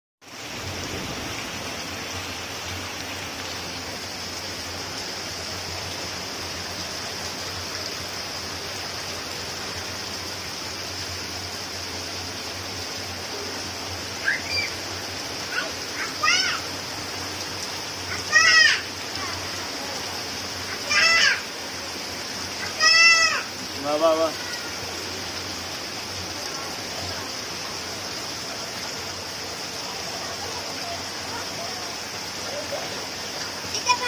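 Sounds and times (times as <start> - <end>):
heavy rain pouring: 0.2 - 34.0
running water: 0.2 - 34.0.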